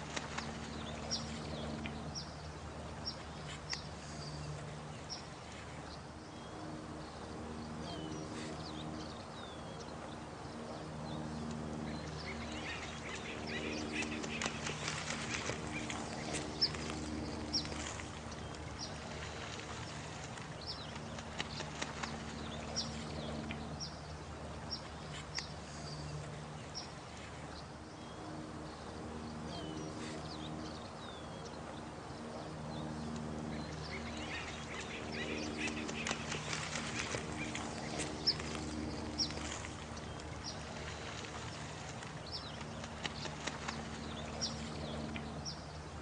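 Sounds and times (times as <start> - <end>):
running water: 0.0 - 46.0.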